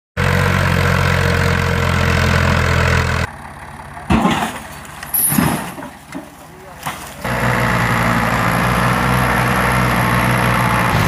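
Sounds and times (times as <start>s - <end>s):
tractor engine running: 0.2s - 11.0s.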